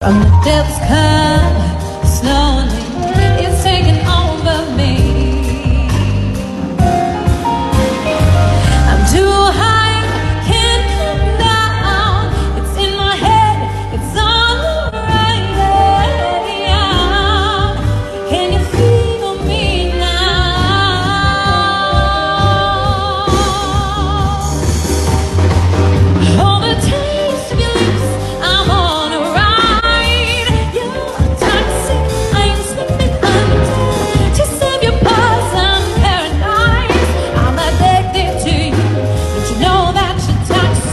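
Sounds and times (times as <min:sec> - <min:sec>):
steady bass accompaniment: 0:00.0 - 0:40.9.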